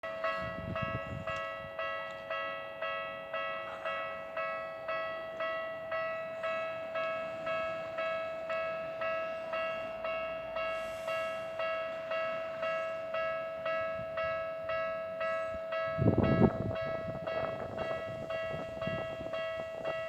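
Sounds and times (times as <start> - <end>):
level-crossing warning bell ringing: 0.0 - 20.0.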